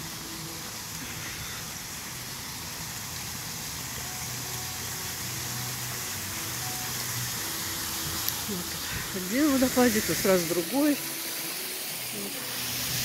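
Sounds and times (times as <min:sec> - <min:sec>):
water pouring over waterfall: 0:00.0 - 0:13.0.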